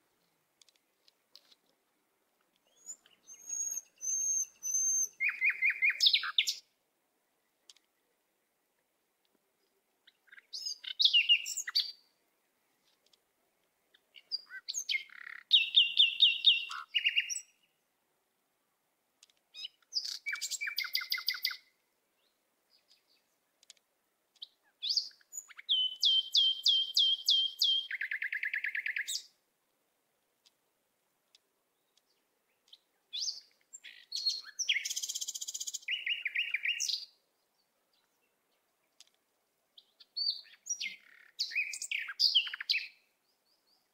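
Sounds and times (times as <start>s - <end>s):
songbird chirps and trills: 0.0s - 43.9s.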